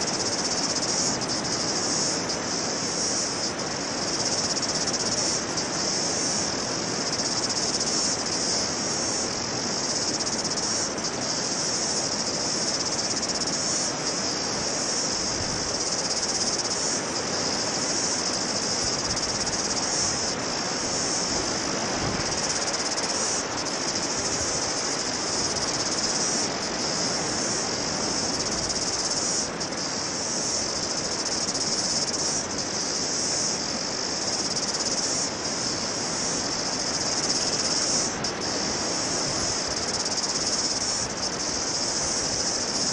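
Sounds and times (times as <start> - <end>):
high-pitched insect chorus: 0.0 - 42.9
wind: 0.0 - 42.9.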